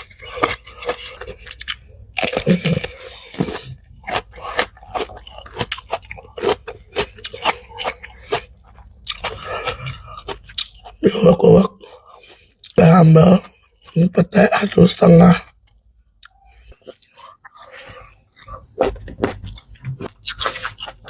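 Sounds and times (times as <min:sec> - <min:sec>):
chewing crunchy food: 0:00.0 - 0:21.0.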